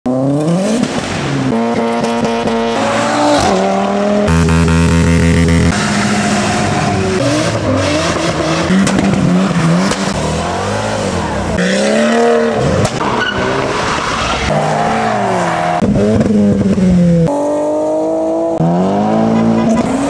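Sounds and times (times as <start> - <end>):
car engines revving: 0.1 - 20.0.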